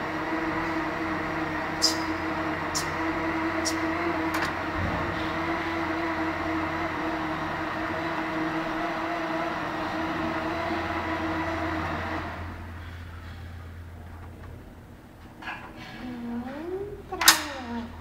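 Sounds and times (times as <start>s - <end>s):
mechanical hum with low tone: 0.0s - 18.0s.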